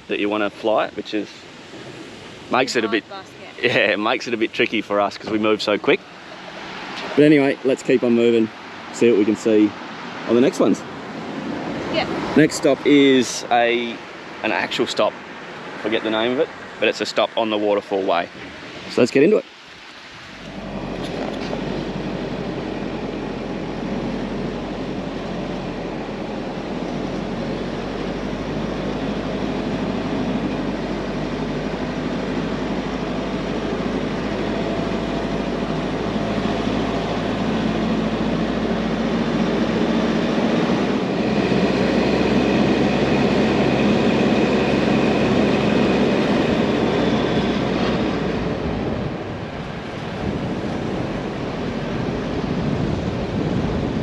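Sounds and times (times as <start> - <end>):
engine and tyre noise: 0.0 - 54.0.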